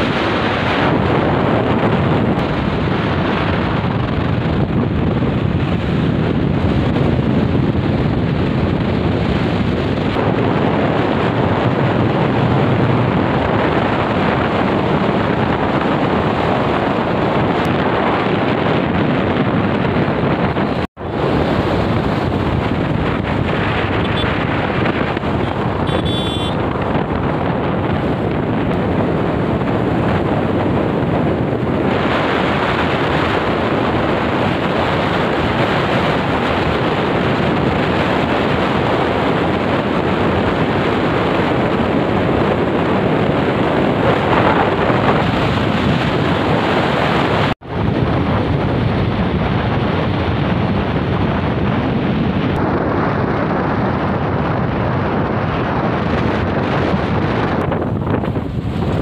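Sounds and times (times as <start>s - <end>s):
motorcycle road noise: 0.0s - 59.0s
wind rushing over microphone: 0.0s - 59.0s.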